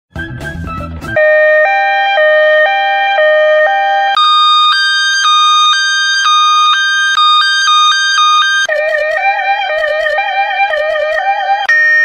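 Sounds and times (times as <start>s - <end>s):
hi-lo electronic siren: 1.2s - 12.0s.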